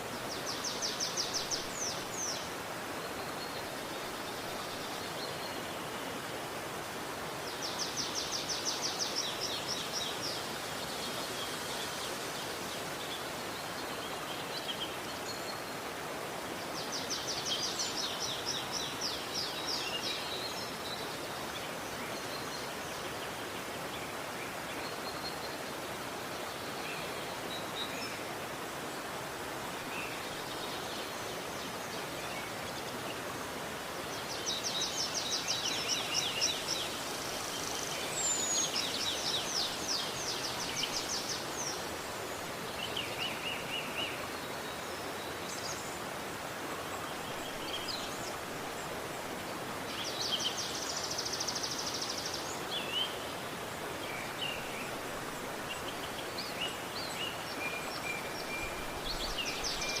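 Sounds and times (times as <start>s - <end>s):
river water flowing: 0.0s - 60.0s
songbirds singing: 0.0s - 60.0s.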